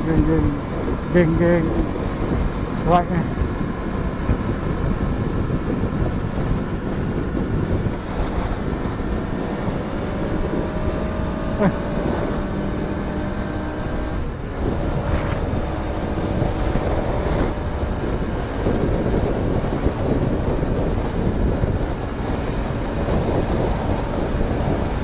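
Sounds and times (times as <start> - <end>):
motorcycle engines running: 0.0 - 25.0
wind rumbling on microphone: 0.0 - 25.0.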